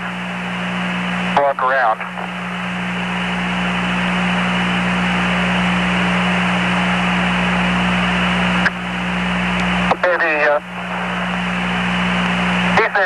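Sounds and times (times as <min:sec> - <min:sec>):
low hum: 0:00.0 - 0:13.0
radio hiss: 0:00.0 - 0:13.0.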